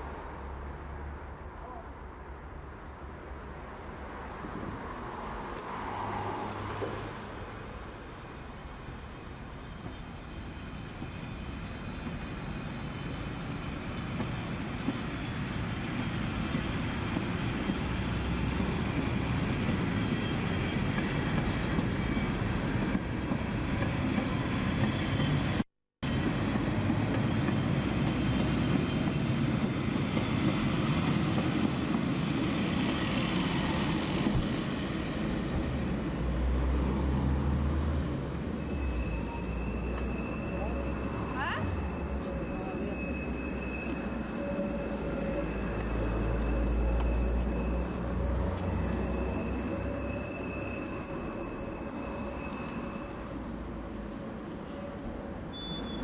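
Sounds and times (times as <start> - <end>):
train wheels on rails: 4.3 - 56.0.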